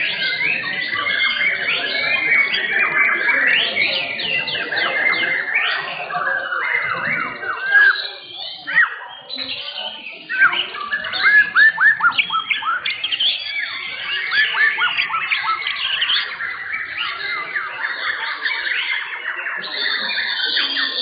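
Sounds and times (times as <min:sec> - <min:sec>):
birds singing whistled song: 0:00.0 - 0:21.0.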